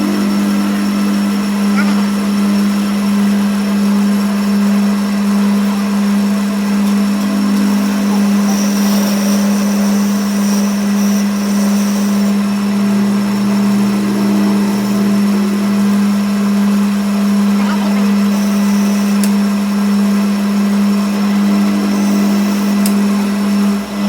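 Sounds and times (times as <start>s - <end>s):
workshop machine humming: 0.0s - 24.0s.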